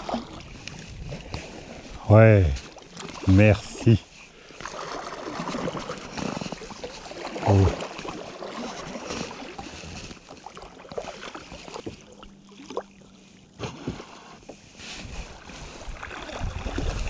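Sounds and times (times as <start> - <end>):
water lapping against kayak hull: 0.0 - 17.0.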